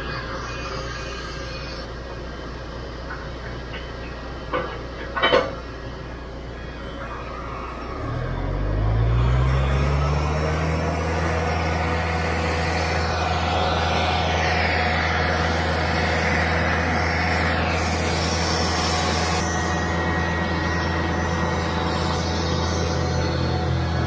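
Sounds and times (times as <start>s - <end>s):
tug engine droning: 0.0s - 24.0s.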